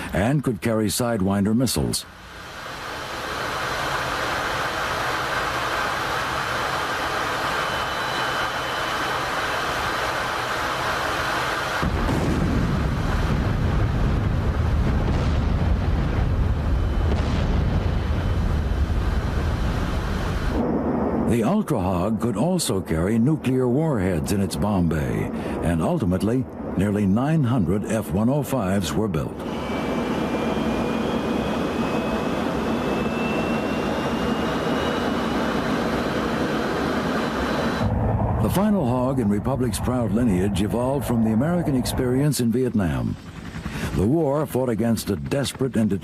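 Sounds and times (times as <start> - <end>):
jet engine rumble: 0.0 - 46.0
high rising whine: 1.5 - 26.9, 28.9 - 44.3.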